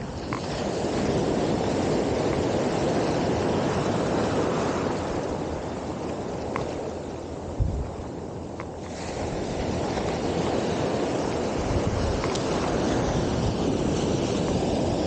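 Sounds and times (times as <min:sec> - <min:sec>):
waves breaking and foaming: 0:00.0 - 0:15.0
wind on microphone: 0:00.0 - 0:15.0.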